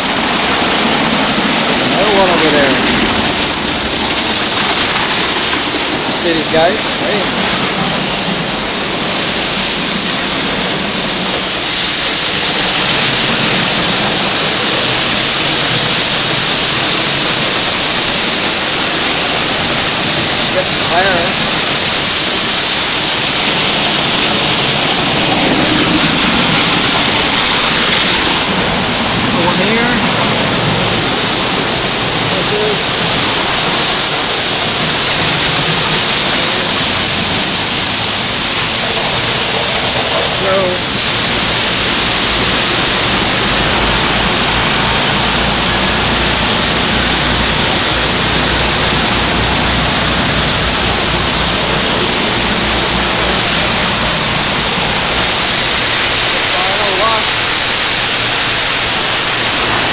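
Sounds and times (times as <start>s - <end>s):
rotating brushes scrubbing: 0.0s - 59.9s
water jets spraying a car: 0.0s - 59.9s.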